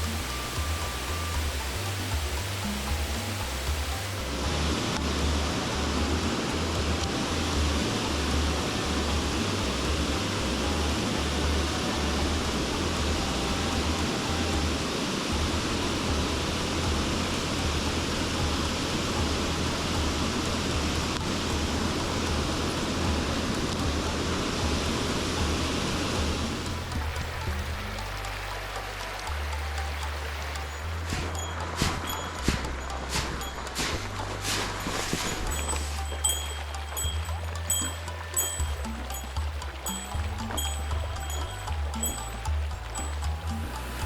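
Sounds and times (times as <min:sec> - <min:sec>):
mountain stream rushing: 0:00.0 - 0:44.0.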